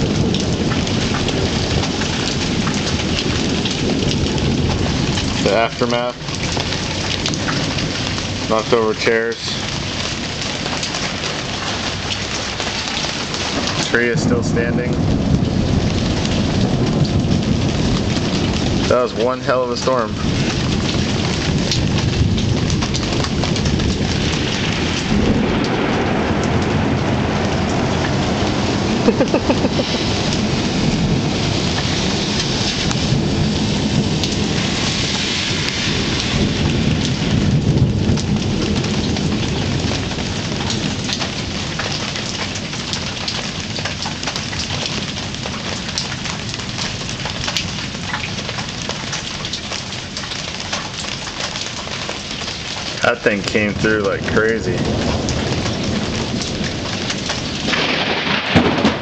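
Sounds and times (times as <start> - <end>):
rolling thunder: 0.0 - 59.0
steady rain falling: 0.0 - 59.0.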